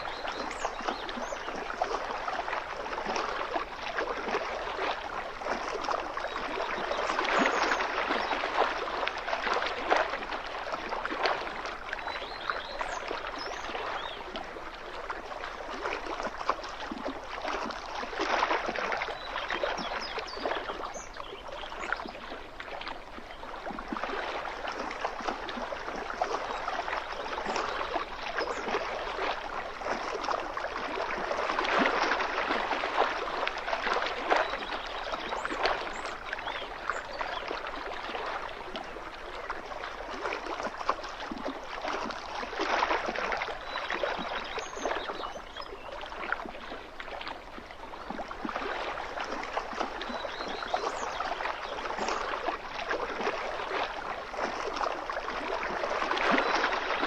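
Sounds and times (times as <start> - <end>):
lake water lapping on shore: 0.0 - 57.0.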